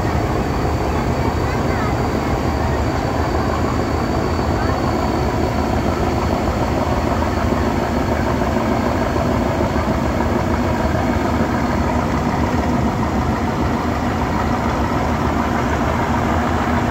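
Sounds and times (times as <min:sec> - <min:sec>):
boat diesel engine droning: 0:00.0 - 0:16.9.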